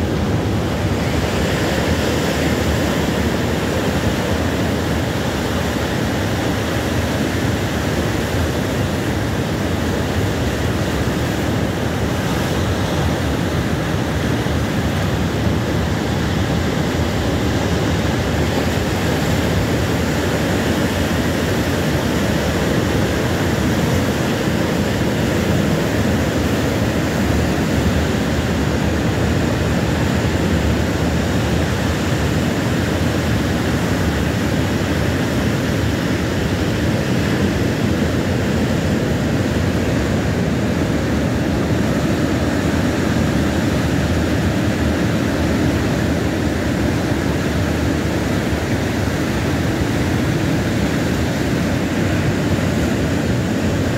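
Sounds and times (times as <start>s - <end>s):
ocean surf breaking over rocks: 0.0s - 53.9s.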